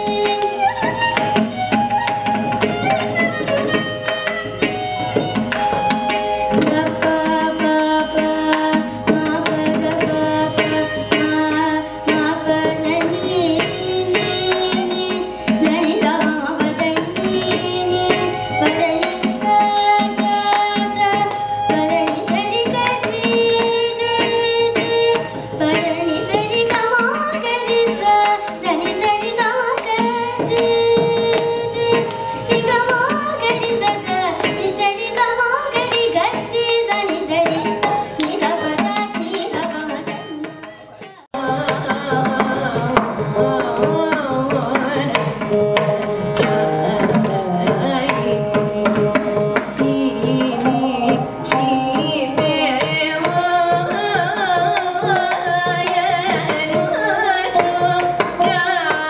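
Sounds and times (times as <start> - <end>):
hand drum playing: 0.0 - 59.0
violin: 0.0 - 59.0.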